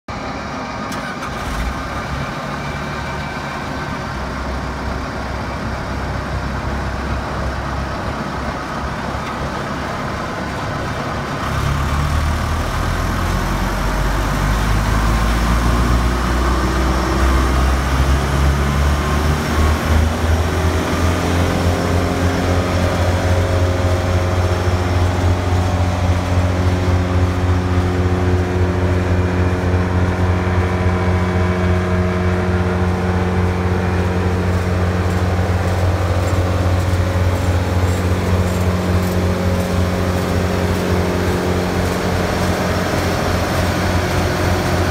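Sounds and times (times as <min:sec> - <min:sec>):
drum chipper diesel engine running: 0:00.1 - 0:44.9.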